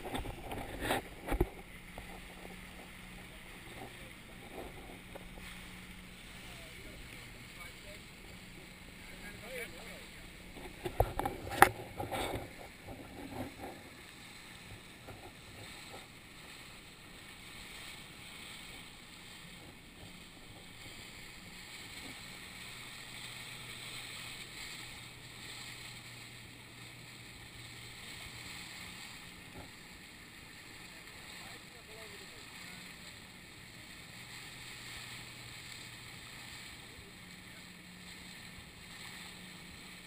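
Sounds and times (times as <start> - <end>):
faint low motor hum: 0.0 - 40.0
wind and water rushing: 0.0 - 40.0.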